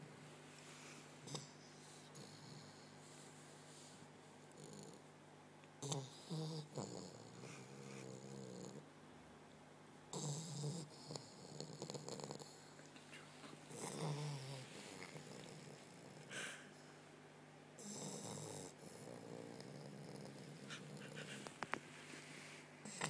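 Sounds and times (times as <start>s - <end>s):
puppy snoring: 0.6s - 5.1s, 5.8s - 8.9s, 10.1s - 12.9s, 13.6s - 16.9s, 17.8s - 23.0s.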